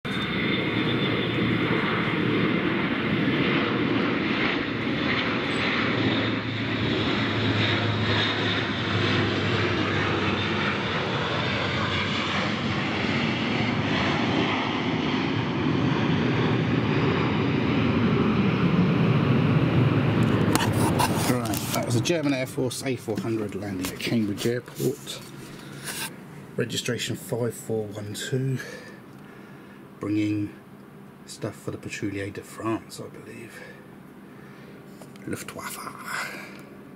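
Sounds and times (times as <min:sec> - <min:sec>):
turboprop aircraft drone: 0:00.1 - 0:36.9.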